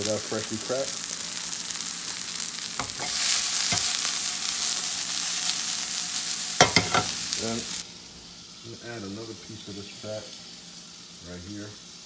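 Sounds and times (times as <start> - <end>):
mushrooms sizzling in fat: 0.0 - 12.0.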